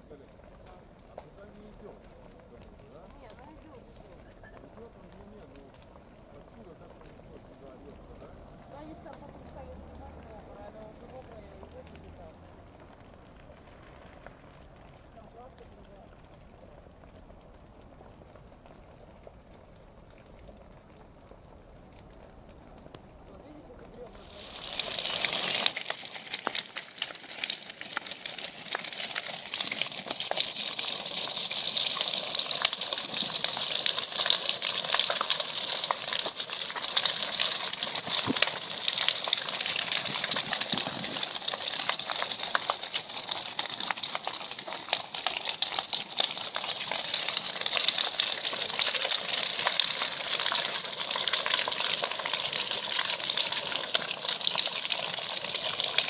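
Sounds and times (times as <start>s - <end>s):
burning logs crackling: 0.0s - 56.0s.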